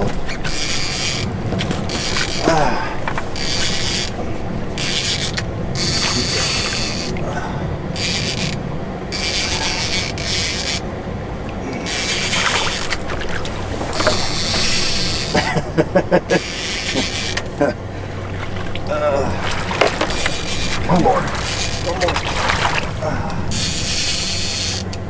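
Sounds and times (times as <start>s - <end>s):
fishing reel whirring: 0.0s - 7.2s, 7.8s - 11.0s, 11.7s - 25.0s
low rumble of boat and water: 0.0s - 25.0s.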